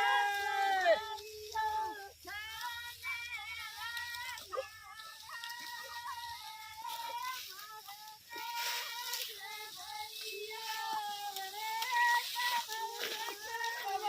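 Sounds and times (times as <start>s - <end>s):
women singing folk song: 0.0s - 14.0s.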